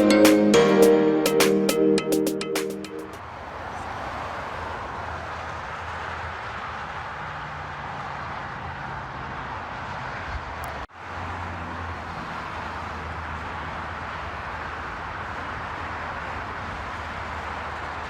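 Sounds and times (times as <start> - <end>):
vehicle and road noise: 3.2 - 18.0.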